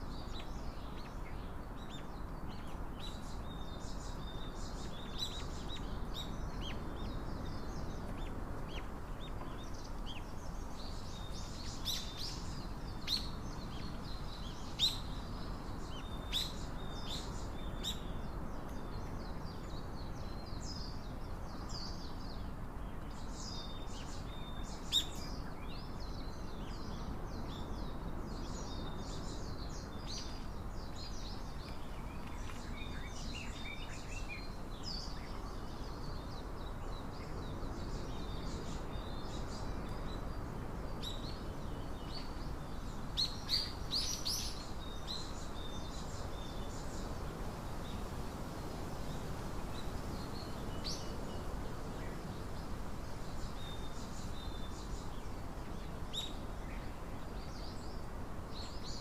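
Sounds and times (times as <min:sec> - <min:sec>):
low background noise: 0:00.0 - 0:59.0
small birds chirping: 0:00.0 - 0:59.0.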